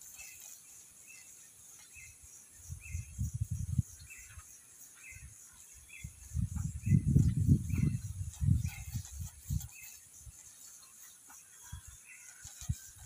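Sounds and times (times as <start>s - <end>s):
high insect hum: 0.0s - 13.0s.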